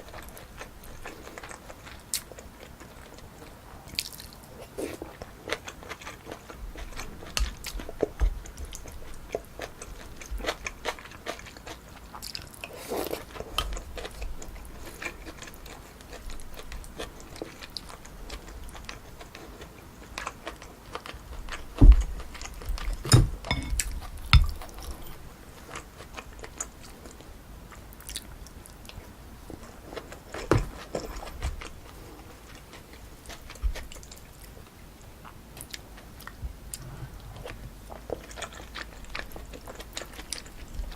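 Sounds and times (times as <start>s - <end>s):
close chewing with wet clicks: 0.0s - 36.8s, 37.4s - 40.9s.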